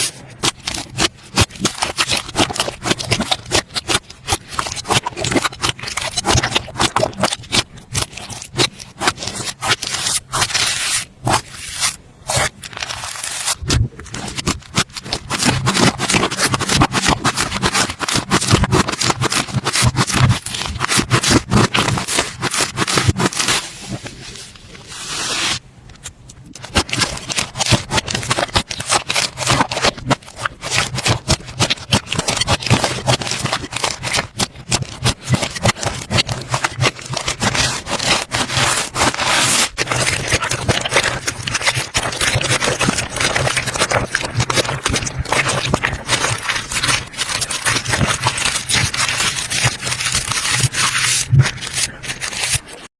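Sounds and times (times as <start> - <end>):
slime squishing and popping: 0.0 - 24.0, 26.0 - 52.9.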